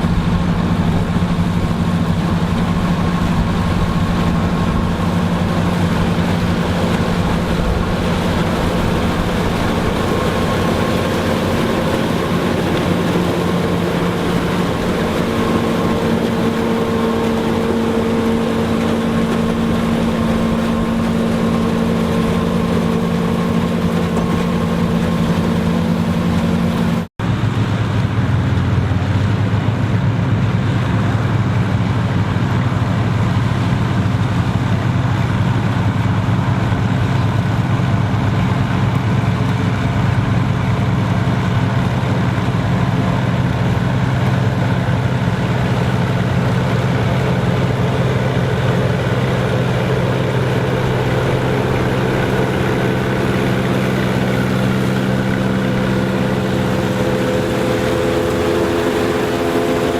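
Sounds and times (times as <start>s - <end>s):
farm machinery engine droning: 0.0s - 59.9s.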